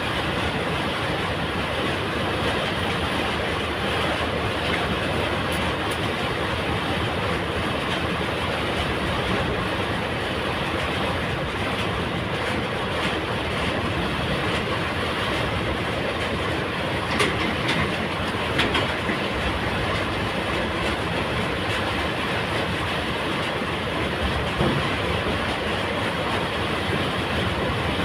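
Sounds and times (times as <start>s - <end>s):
heavy diesel machinery running: 0.0s - 28.0s.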